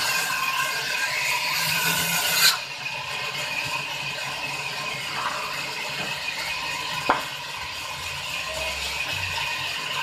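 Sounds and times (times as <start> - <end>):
band saw whirring: 0.0 - 10.0.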